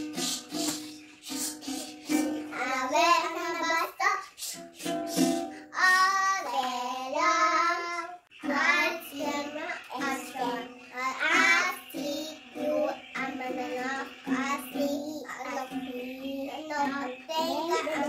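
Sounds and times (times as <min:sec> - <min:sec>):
girls singing together: 0:00.0 - 0:18.0
ukulele strumming: 0:00.0 - 0:18.0.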